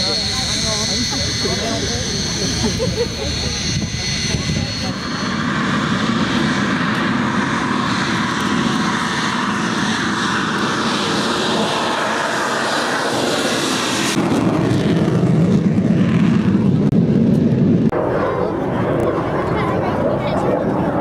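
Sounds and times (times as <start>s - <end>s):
loud jet engine roar: 0.0s - 21.0s.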